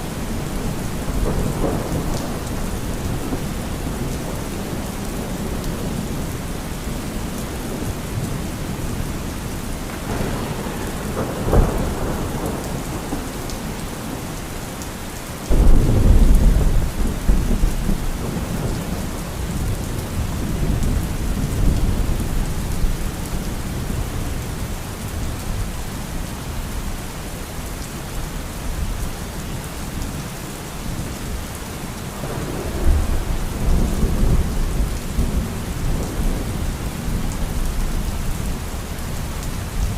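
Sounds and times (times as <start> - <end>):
heavy rain: 0.0 - 39.9
thunder rumbling and cracking: 0.1 - 26.1, 32.0 - 39.9.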